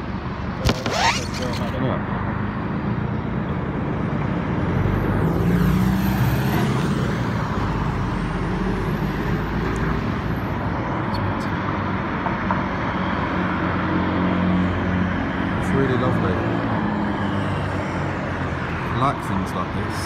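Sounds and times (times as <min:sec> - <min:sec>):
steady traffic rumble: 0:00.0 - 0:20.0.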